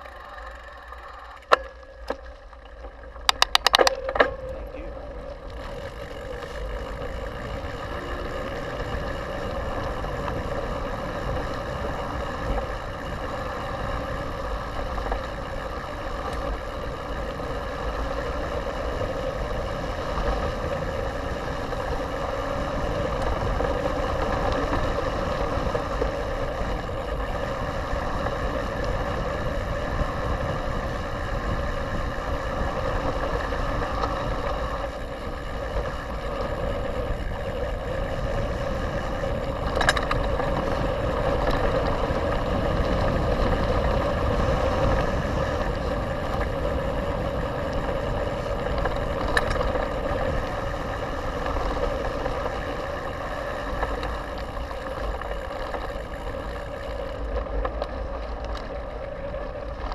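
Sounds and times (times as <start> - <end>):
bike tyres on dirt: 0.0 - 59.9
constant low hum: 0.0 - 59.9.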